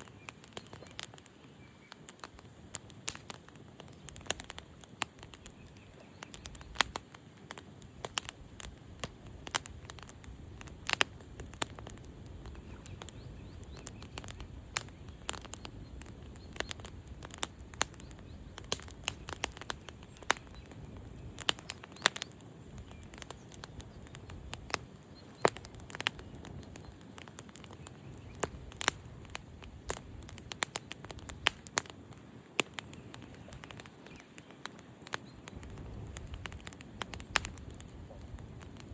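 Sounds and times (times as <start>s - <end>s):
campfire pops and snaps: 0.0s - 38.9s
low rumble of burning fire: 0.0s - 38.9s.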